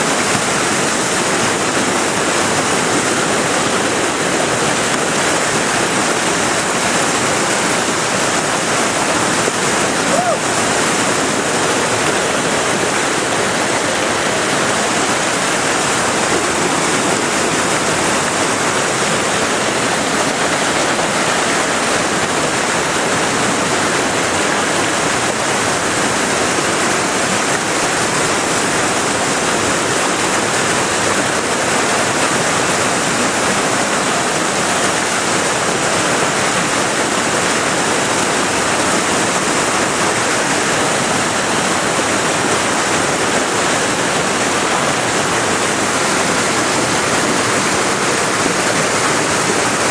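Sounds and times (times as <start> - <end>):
rushing white water: 0.0 - 49.9.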